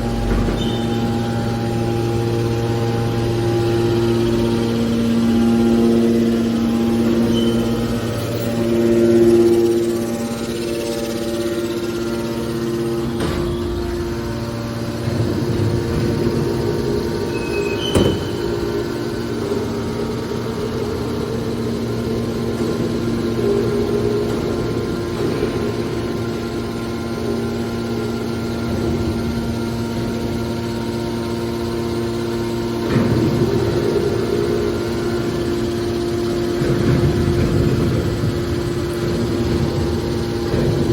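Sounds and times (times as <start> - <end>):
baler power unit hum: 0.0 - 40.9.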